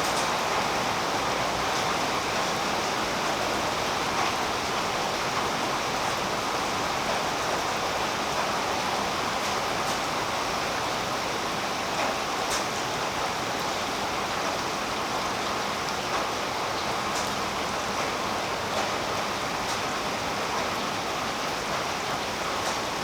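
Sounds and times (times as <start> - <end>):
rain on foliage: 0.0 - 23.0.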